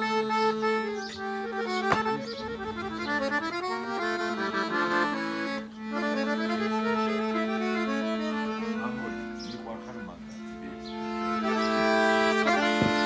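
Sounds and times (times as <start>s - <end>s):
accordion melody: 0.0s - 13.0s.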